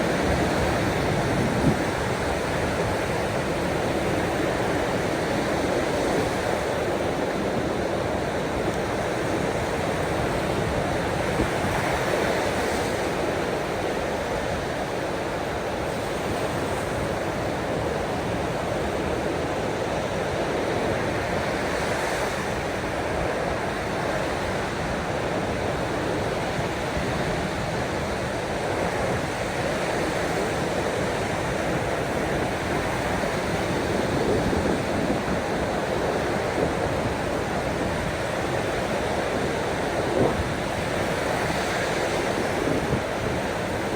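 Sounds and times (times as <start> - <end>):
ocean waves washing on shore: 0.0 - 43.9.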